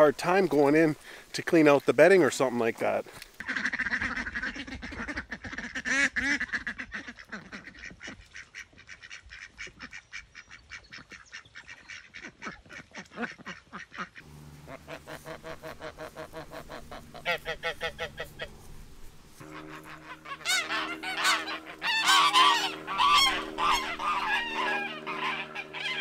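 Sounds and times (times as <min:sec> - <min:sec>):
ducks quacking: 0:03.4 - 0:26.0
geese honking: 0:03.4 - 0:26.0.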